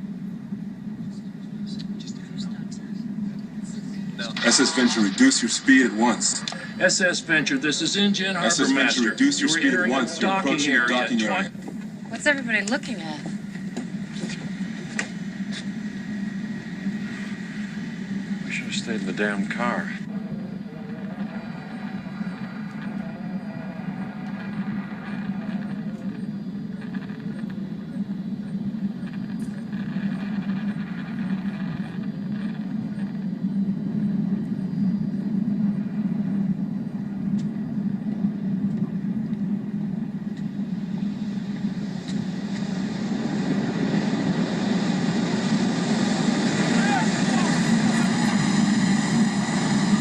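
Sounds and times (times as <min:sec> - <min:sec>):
large ship engine rumble: 0:00.0 - 0:50.0.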